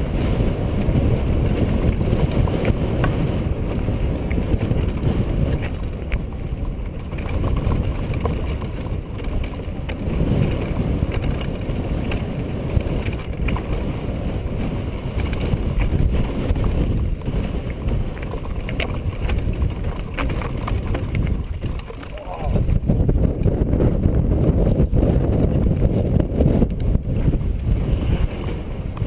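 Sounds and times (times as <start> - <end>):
bike rattling over stones: 0.0 - 29.0
wind buffeting microphone: 0.0 - 29.0.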